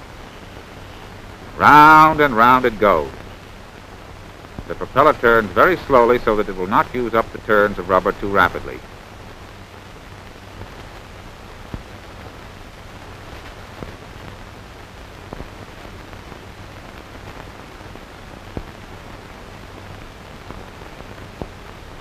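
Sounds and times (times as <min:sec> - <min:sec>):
film soundtrack hiss and hum: 0:00.0 - 0:22.0.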